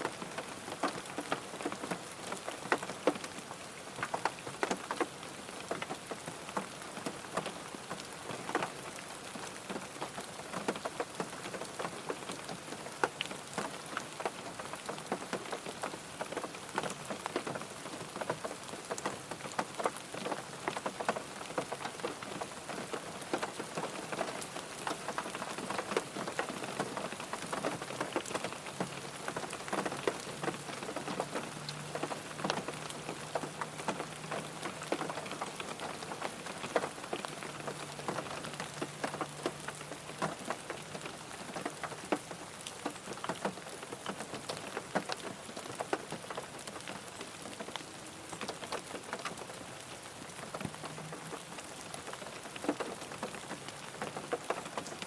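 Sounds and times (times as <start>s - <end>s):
raindrops ticking on car body: 0.0s - 55.0s
rainfall hiss: 0.0s - 55.0s.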